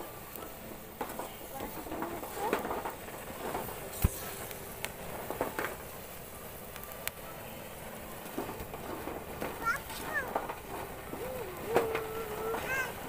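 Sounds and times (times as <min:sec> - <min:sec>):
fire flames roaring: 0:00.0 - 0:13.0.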